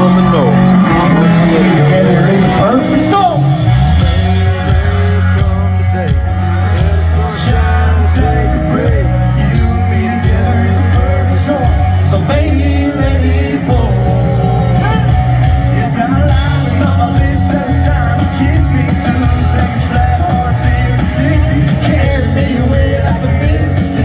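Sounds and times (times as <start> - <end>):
live country-rock band playing: 0.0 - 24.0
voices singing: 0.0 - 24.0.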